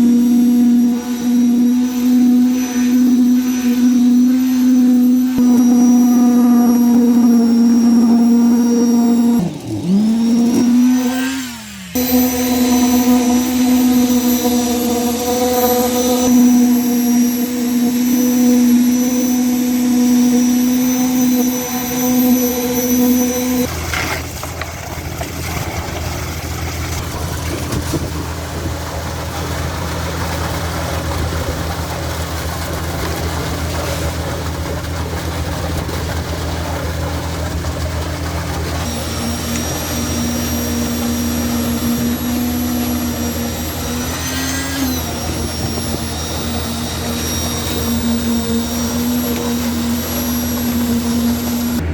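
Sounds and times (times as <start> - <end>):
diesel engine and concrete pump: 0.0 - 51.9
pitched drone: 0.0 - 51.9.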